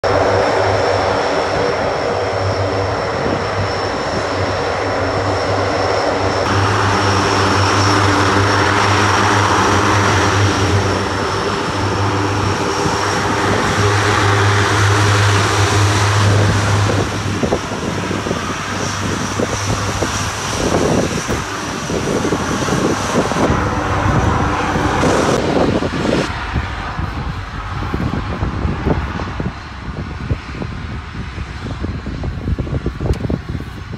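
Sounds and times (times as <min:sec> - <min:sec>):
high turbine whine: 0:00.0 - 0:33.9
low propeller drone: 0:00.0 - 0:33.9.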